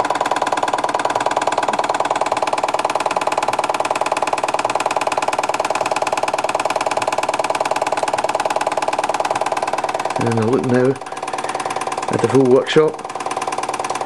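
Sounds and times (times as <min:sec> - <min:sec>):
toy steam engine clattering: 0:00.0 - 0:14.0.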